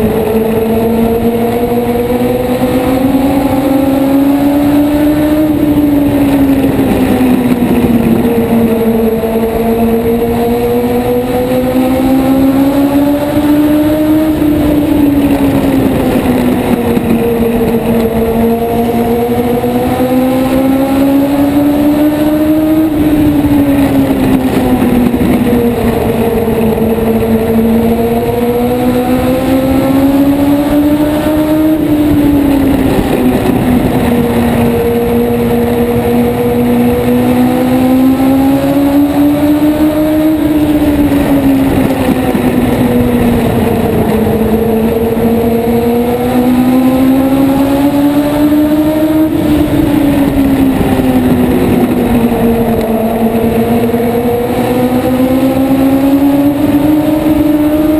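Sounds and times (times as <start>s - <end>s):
race car engine at full speed: 0.0s - 57.9s.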